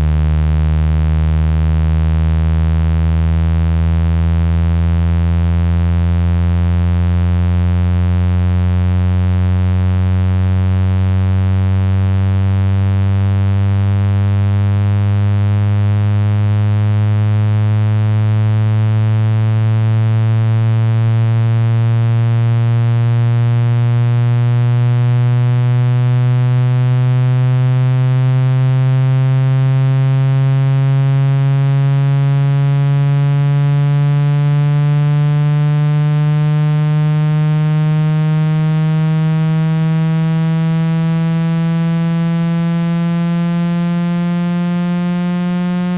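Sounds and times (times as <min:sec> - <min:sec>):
rising buzzy electronic tone: 0:00.0 - 0:45.9.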